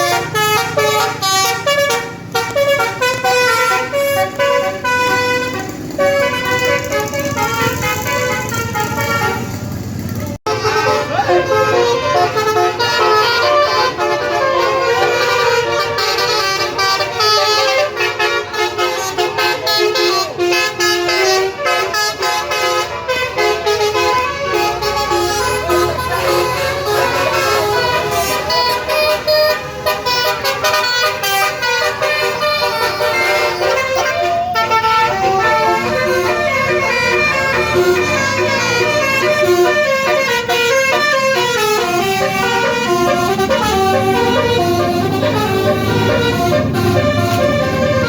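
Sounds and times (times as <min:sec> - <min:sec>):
air horns playing a melody: 0:00.0 - 0:09.6, 0:10.4 - 0:48.0.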